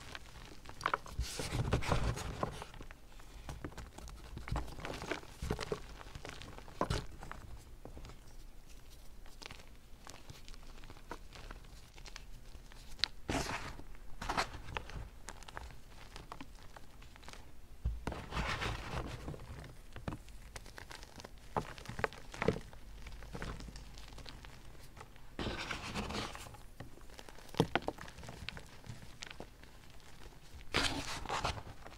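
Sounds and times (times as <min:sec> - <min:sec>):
hand crushing chalk blocks: 0:00.0 - 0:31.9.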